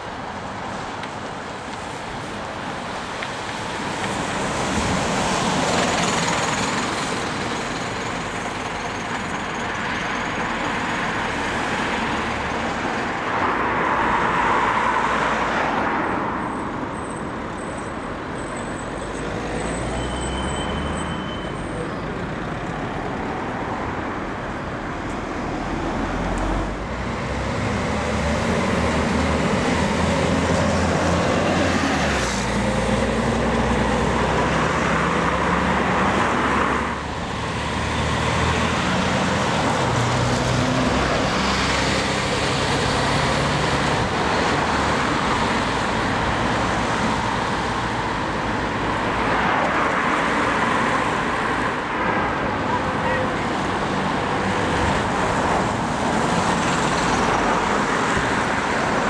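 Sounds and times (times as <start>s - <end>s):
traffic passing close by: 0.0s - 59.0s.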